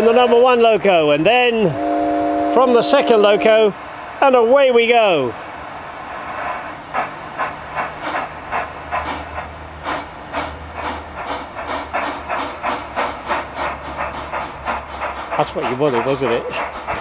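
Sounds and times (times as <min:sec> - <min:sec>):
steam locomotive chuffing: 0:00.0 - 0:17.0
continuous steam hiss: 0:02.5 - 0:17.0.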